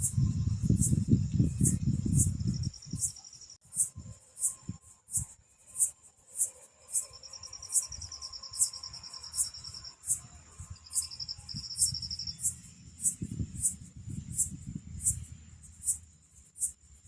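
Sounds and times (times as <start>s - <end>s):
fast insect trill: 0.0s - 17.0s
insects chirping: 0.0s - 17.0s
steady high insect buzz: 0.0s - 17.0s.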